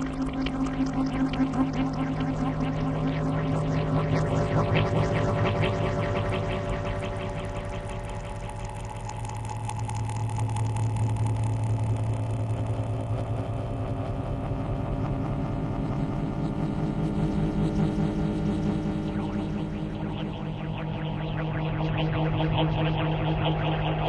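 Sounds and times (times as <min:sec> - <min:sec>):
low synth drone: 0:00.0 - 0:24.0
pulsing flutter: 0:00.0 - 0:24.0.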